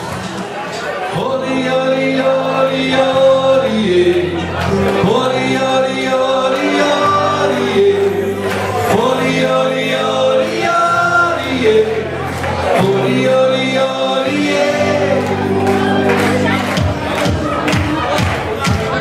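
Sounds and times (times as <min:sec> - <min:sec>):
live pop band playing: 0:00.0 - 0:19.0
person singing: 0:01.1 - 0:19.0.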